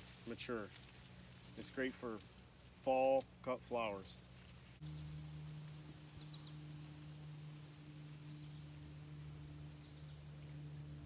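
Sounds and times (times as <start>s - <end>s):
faint low hum: 0.0s - 11.0s
insects trilling: 0.0s - 11.0s.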